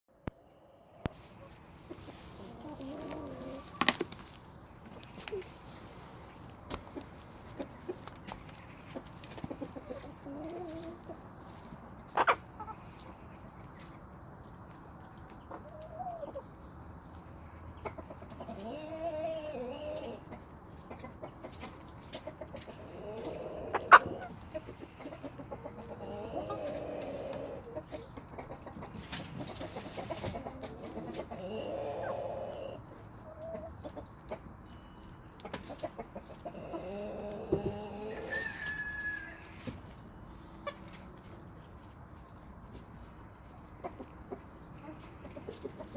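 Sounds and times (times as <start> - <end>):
chickens clucking: 0.1 - 45.9.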